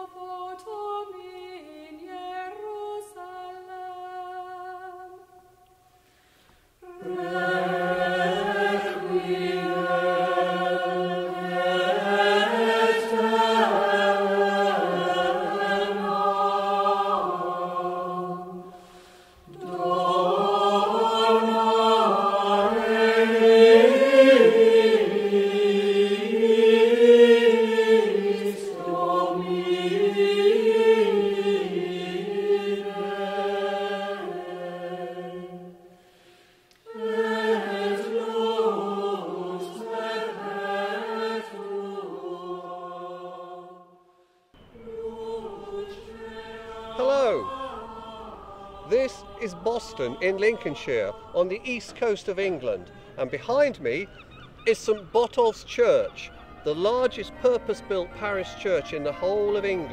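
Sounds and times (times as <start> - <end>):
church choir singing: 0.0 - 6.0, 6.7 - 59.9.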